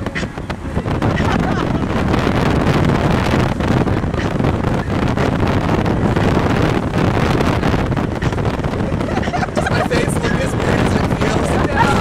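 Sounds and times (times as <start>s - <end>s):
car road noise: 0.0s - 12.0s
wind rushing through car window: 0.0s - 12.0s.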